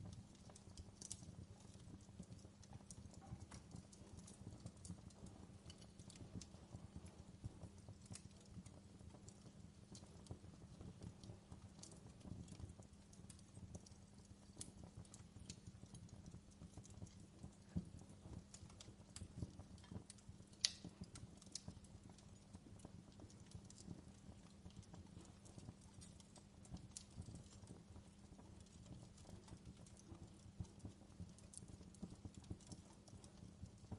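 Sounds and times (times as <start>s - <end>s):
fireplace crackling and popping: 0.0s - 33.9s
soft low fire rumble: 0.0s - 33.9s.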